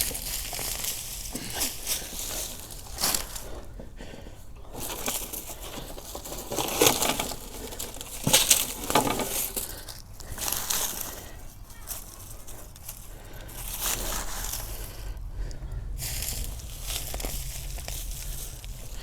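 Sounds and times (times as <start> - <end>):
dry plants crunching and rustling: 0.0 - 19.0.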